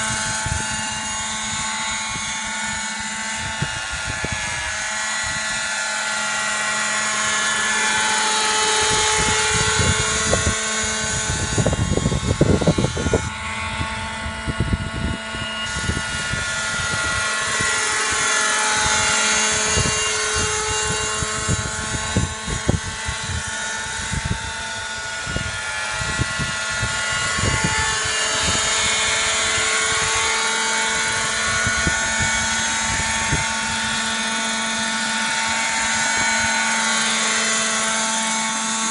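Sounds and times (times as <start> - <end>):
helicopter whine: 0.0 - 38.9.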